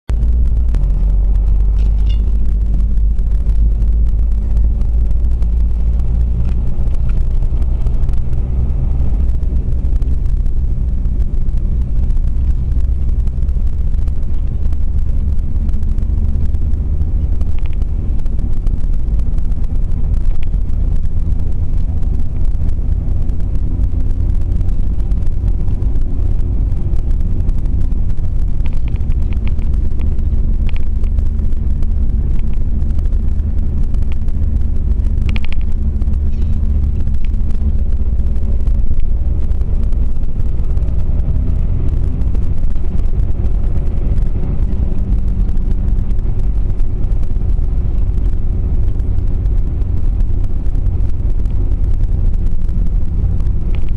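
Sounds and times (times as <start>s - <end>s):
car engine rumble: 0.0s - 53.9s
tyre road noise: 0.0s - 53.9s.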